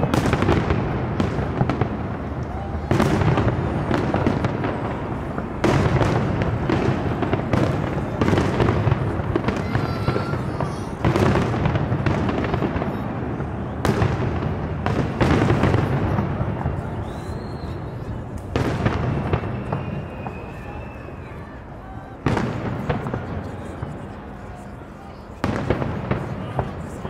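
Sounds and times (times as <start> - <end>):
firework bangs: 0.0 - 27.0
fireworks crackling: 0.0 - 27.0.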